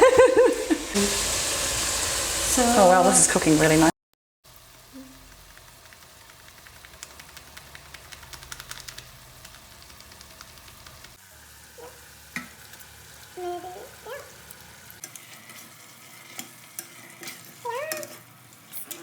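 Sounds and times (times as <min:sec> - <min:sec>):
curry sizzling in a pan: 0:00.0 - 0:07.9, 0:09.0 - 0:19.0.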